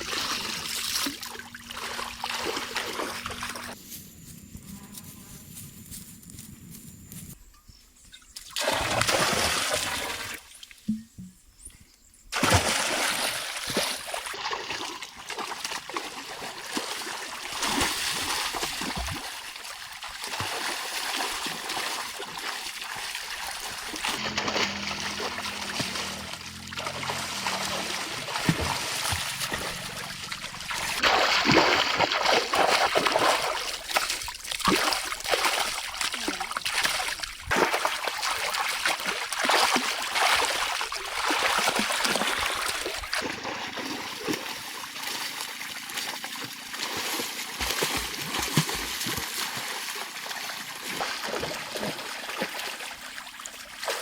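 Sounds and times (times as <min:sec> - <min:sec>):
water splashing and trickling: 0:00.0 - 0:03.8, 0:08.2 - 0:11.3, 0:12.3 - 0:54.0.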